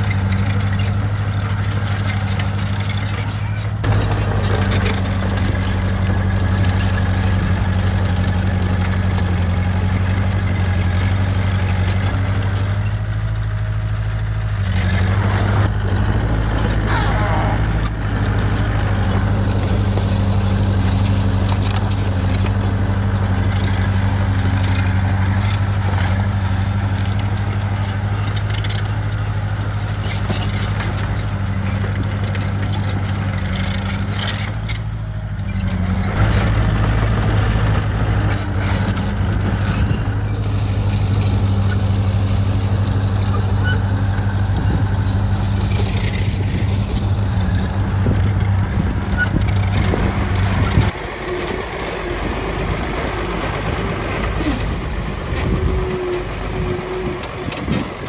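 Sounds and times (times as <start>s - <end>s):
diesel engine hum: 0.0s - 58.0s
metallic clanking and rattling: 0.0s - 58.0s.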